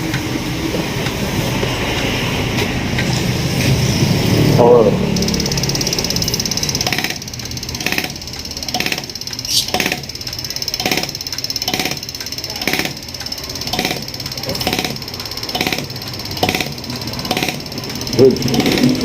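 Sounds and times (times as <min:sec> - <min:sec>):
diesel injector ticking: 0:01.0 - 0:19.0
hissing pulse: 0:03.3 - 0:19.0.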